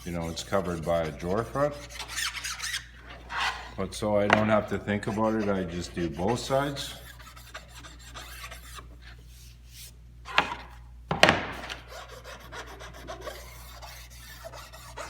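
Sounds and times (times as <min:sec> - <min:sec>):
hand rubbing wood edge: 0:00.0 - 0:10.8, 0:11.6 - 0:15.0.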